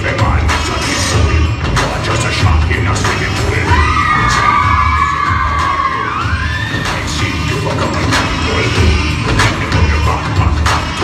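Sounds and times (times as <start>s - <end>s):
loud dance music with bass beat: 0.0s - 11.0s.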